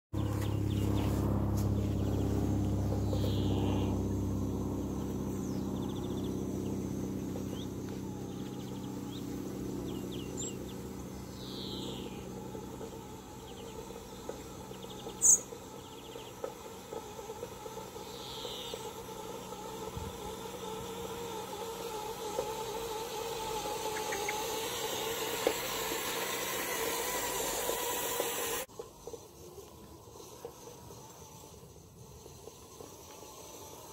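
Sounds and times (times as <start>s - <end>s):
birds chirping: 0.2s - 28.7s
electric motor whining: 0.2s - 33.9s.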